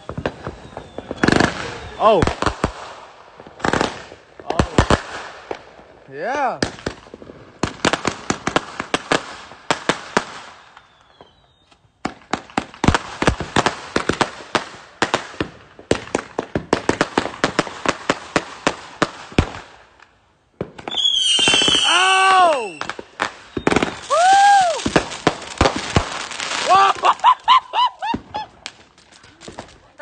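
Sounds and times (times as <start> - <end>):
fireworks banging and popping: 0.0 - 30.0.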